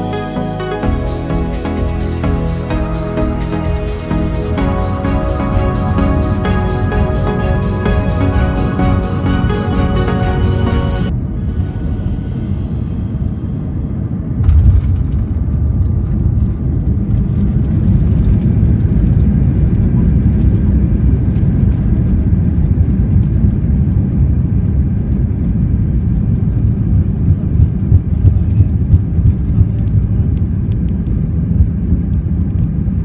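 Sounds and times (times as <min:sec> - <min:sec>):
jet engine and airflow rumble: 0:00.0 - 0:33.0.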